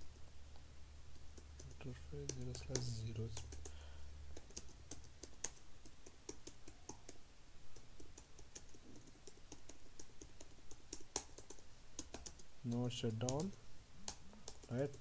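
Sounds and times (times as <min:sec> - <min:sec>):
typing on a keyboard: 0:01.6 - 0:15.0.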